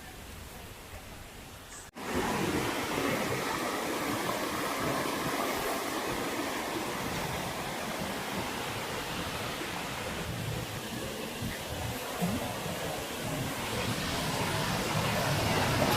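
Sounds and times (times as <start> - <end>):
waterfall rushing: 1.9 - 15.9.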